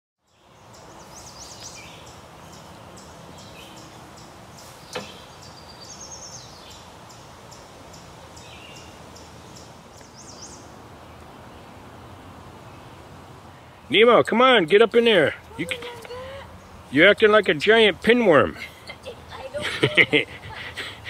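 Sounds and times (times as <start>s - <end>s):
background hiss: 0.3s - 21.0s
birds calling: 0.3s - 21.0s.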